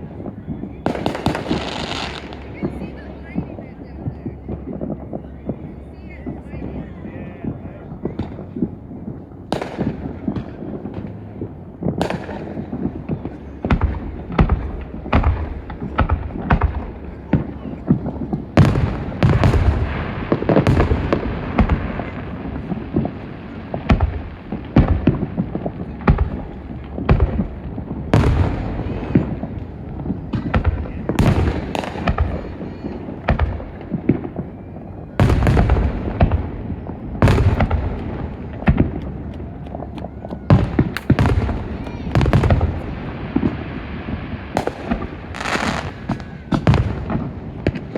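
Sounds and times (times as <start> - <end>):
fireworks exploding: 0.0 - 47.9.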